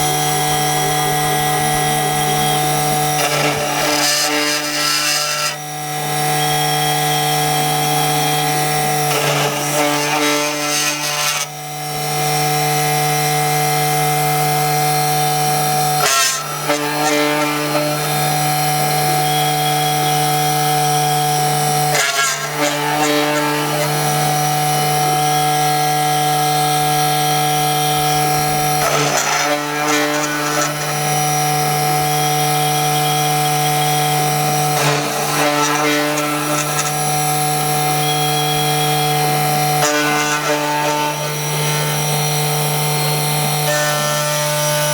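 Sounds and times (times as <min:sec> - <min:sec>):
milling machine spindle whine: 0:00.0 - 0:44.9.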